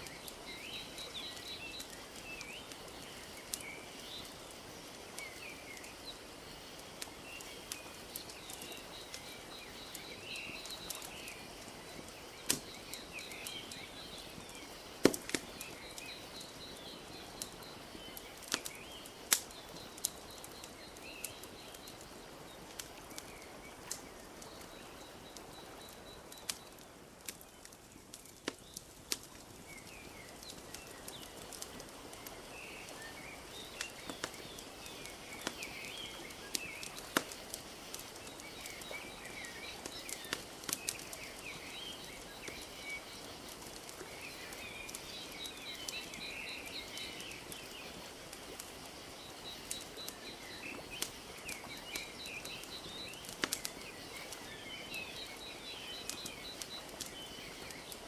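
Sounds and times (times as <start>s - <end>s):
small birds chirping: 0.0s - 58.0s
wood fire crackling and popping: 0.0s - 58.0s.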